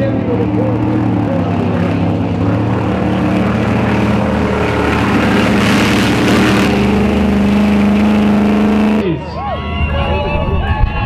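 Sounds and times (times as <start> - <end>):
truck engine running hard: 0.0 - 9.2.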